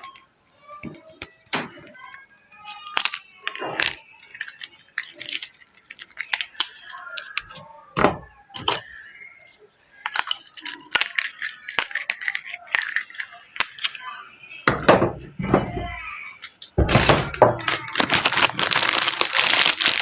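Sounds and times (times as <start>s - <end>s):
small objects clicking and clinking: 0.0s - 20.0s.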